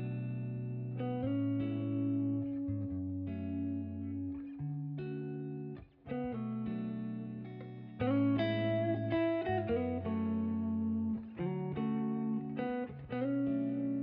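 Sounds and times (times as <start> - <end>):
guitar background music: 0.0 - 14.0.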